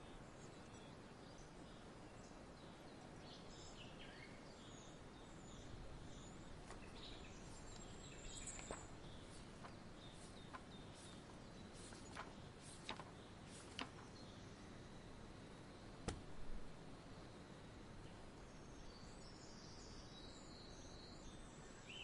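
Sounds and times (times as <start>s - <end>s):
faint songbird chirps: 0.0s - 22.0s
steady low hiss: 0.0s - 22.0s.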